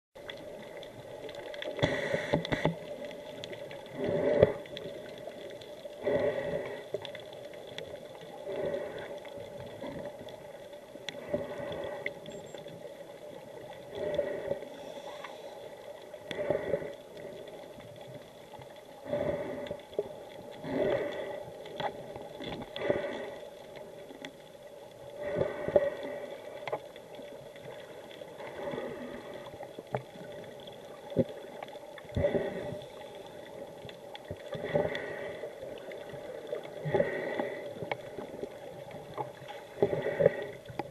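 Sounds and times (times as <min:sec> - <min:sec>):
steady hiss: 0:00.4 - 0:40.8.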